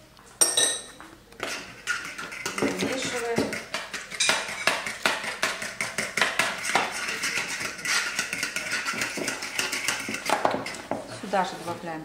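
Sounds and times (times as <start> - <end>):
fork beating egg in plastic bowl: 1.4 - 11.3.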